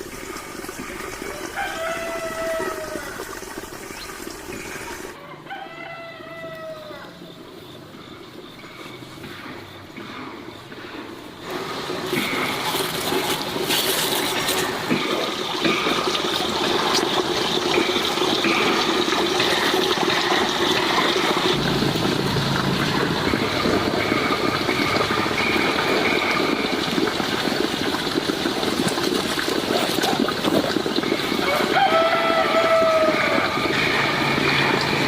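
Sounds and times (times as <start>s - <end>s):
water running: 0.0s - 5.2s, 11.4s - 35.0s.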